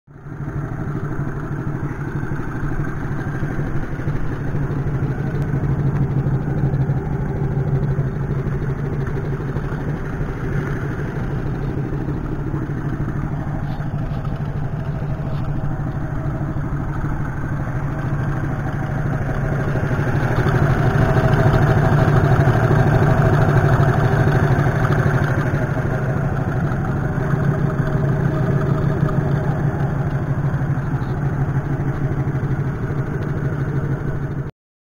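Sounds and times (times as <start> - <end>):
small engine idling: 0.1 - 34.5.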